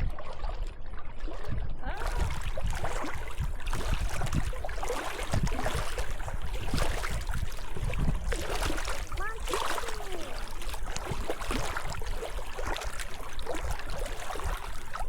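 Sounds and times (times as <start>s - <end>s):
water lapping: 0.0s - 15.0s
wind rumbling on microphone: 0.0s - 15.0s.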